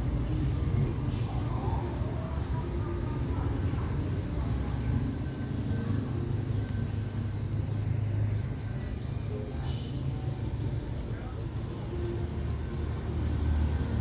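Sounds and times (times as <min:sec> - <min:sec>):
continuous low rumble: 0:00.0 - 0:14.0
high-pitched insect drone: 0:00.0 - 0:14.0.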